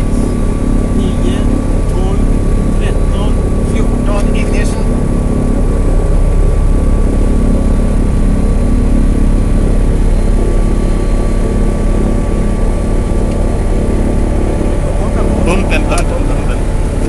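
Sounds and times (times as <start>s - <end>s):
faint high whine: 0.0s - 17.0s
propeller plane engines droning: 0.0s - 17.0s.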